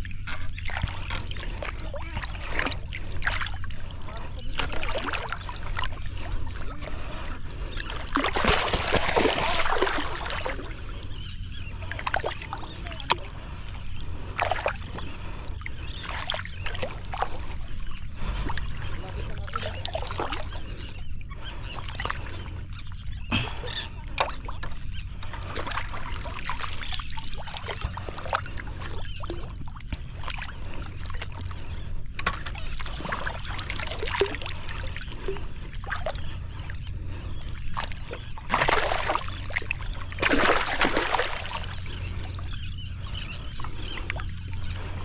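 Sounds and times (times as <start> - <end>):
sea water lapping and splashing: 0.0 - 45.0
steady low hum: 0.0 - 45.0.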